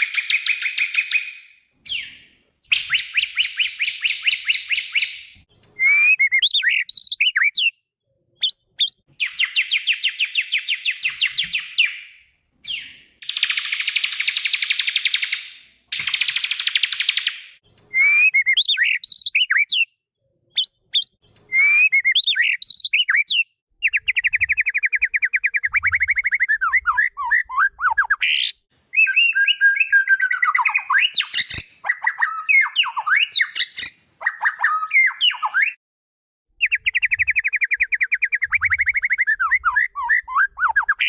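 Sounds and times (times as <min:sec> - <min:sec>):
bird trilling and whistling: 0:00.0 - 0:07.8, 0:08.4 - 0:19.9, 0:20.6 - 0:35.8, 0:36.6 - 0:41.0.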